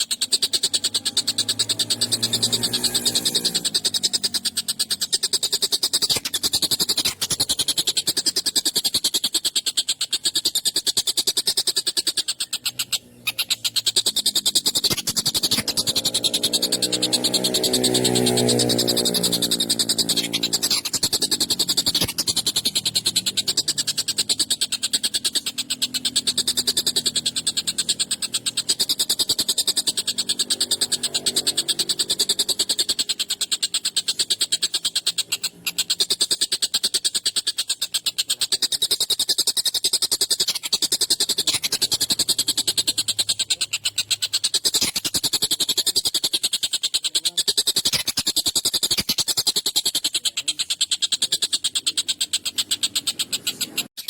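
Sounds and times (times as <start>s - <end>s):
kingfisher rattling chatter: 0.0s - 54.0s.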